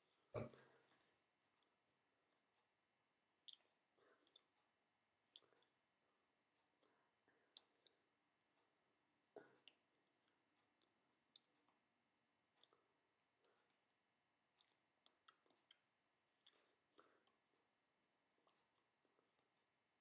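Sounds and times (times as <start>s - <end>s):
faint clicks and soft taps: 0.0s - 20.0s.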